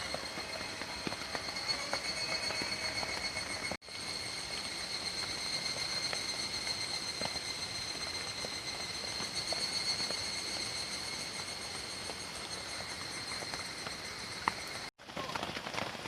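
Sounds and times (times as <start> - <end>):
cicadas droning: 0.0 - 14.9
steady rain falling: 0.0 - 16.0.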